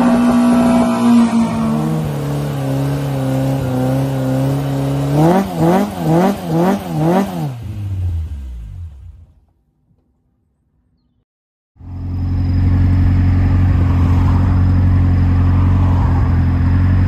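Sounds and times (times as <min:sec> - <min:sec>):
car engine revving: 0:00.0 - 0:09.5, 0:11.8 - 0:17.0.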